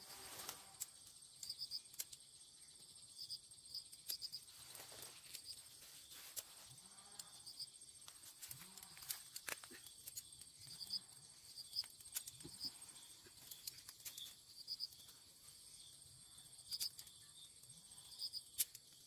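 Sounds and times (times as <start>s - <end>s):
insects chirping: 0.0s - 19.0s
steady high insect trill: 0.0s - 19.0s.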